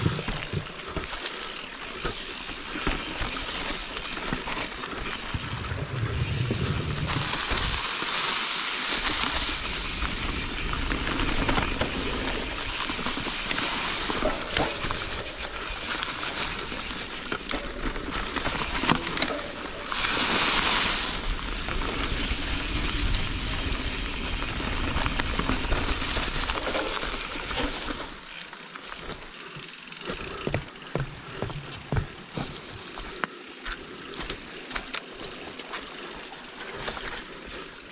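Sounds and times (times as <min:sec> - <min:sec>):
bike rattling over bumps: 0:00.0 - 0:37.9
tyres rolling over dirt: 0:00.0 - 0:37.9.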